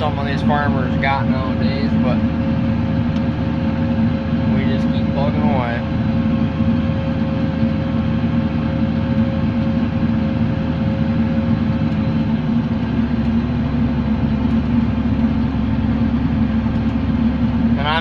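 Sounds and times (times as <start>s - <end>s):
tractor engine drone: 0.0s - 18.0s.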